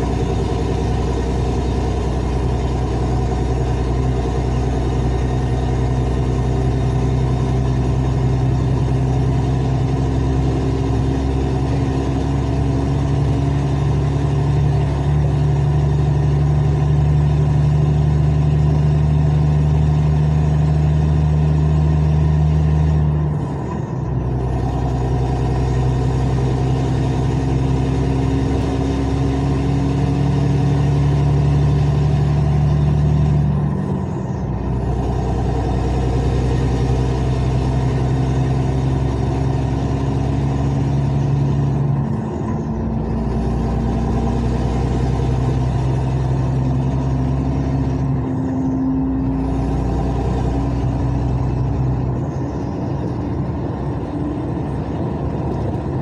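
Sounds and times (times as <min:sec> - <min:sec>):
loud car engine and exhaust: 0:00.0 - 0:56.0.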